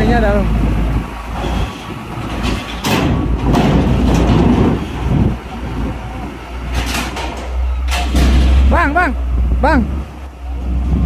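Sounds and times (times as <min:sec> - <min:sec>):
wheels clanking on metal plates: 0:00.0 - 0:09.0
truck diesel engine running low: 0:00.0 - 0:11.0.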